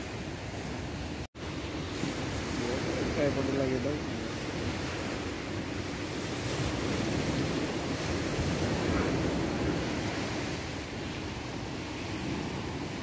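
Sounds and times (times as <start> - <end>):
surf washing onto beach: 0.0 - 13.0
wind on microphone: 0.0 - 13.0.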